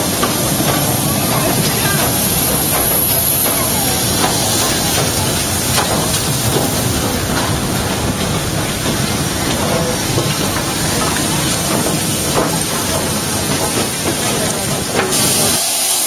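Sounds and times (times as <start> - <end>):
steam locomotives hissing: 0.0 - 16.0.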